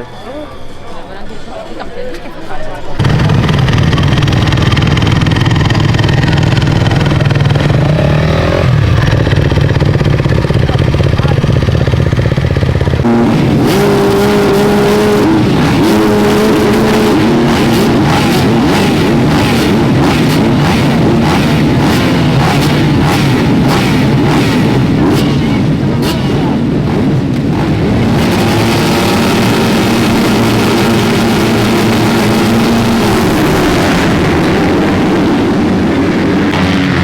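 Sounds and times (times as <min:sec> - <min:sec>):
motocross bike engines revving: 0:03.0 - 0:37.0
motocross bike engines running: 0:03.0 - 0:37.0.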